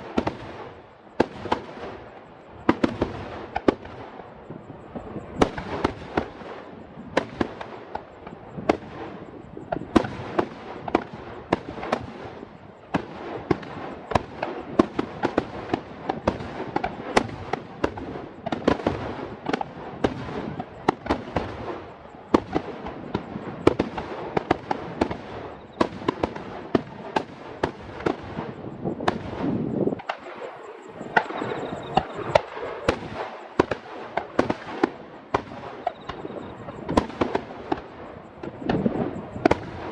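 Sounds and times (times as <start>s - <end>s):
crackling rumble: 0.0s - 39.9s
fireworks bangs: 0.0s - 39.9s.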